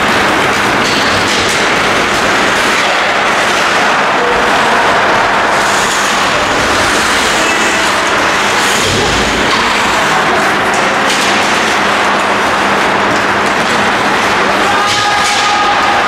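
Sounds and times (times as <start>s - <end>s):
ice rink crowd noise: 0.0s - 16.0s.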